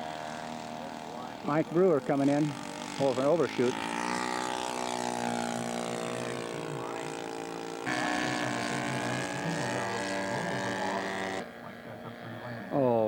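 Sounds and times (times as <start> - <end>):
model aircraft engine: 0.0 - 13.0.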